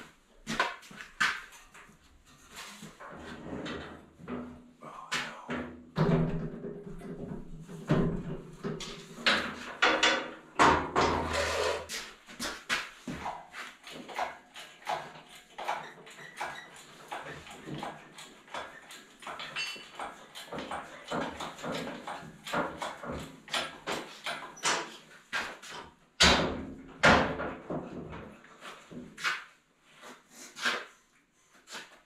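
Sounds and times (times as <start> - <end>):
irregular knocking and clattering: 0.0 - 29.6.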